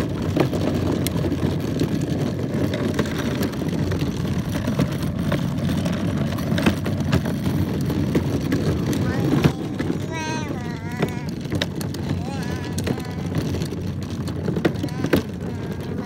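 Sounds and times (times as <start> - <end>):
plastic wheels rolling on concrete: 0.0 - 16.0.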